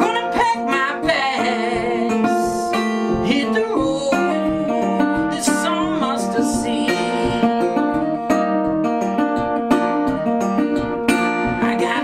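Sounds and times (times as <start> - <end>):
acoustic guitar blues strumming: 0.0 - 12.0
wavering high guitar line: 0.0 - 12.0.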